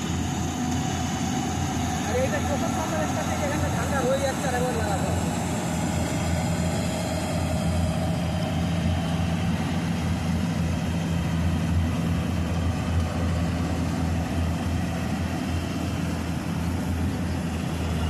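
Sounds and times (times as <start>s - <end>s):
combine harvester engine humming: 0.0s - 18.0s.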